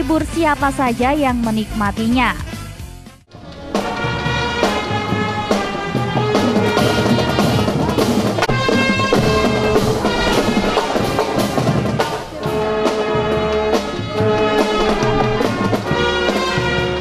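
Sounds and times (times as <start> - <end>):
steady drum beats: 0.0 - 17.0
brass holding chords: 3.3 - 17.0.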